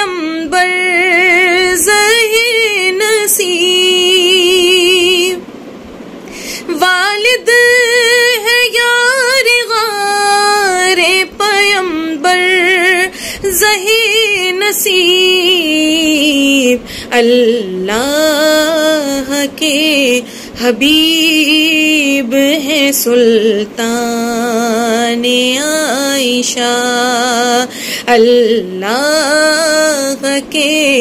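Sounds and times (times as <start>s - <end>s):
woman singing unaccompanied: 0.0s - 5.5s, 6.4s - 31.0s.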